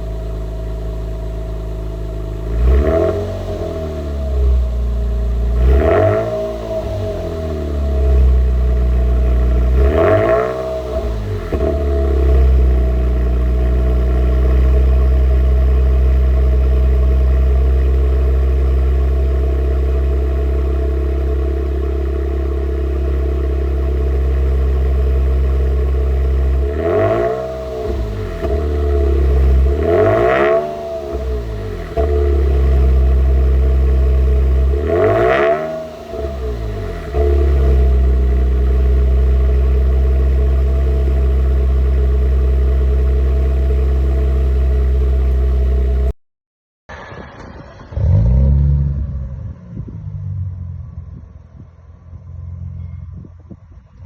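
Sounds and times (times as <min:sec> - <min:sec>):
car engine idling and revving: 0:00.0 - 0:46.2, 0:46.9 - 0:54.0.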